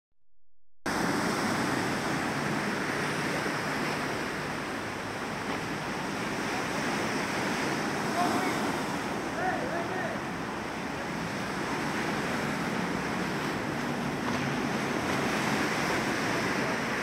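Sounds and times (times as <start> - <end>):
ocean surf on sandy beach: 0.9 - 17.0.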